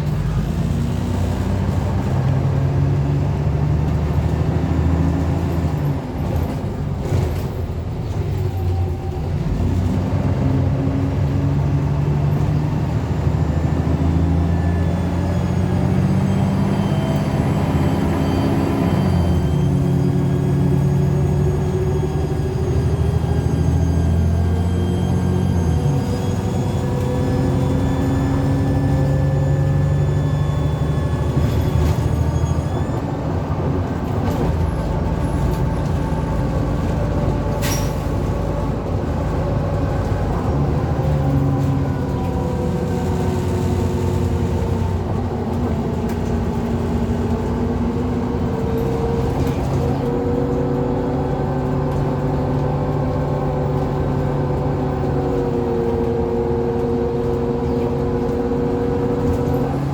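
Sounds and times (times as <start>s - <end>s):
bus engine running: 0.0s - 59.9s
whining differential: 0.0s - 59.9s.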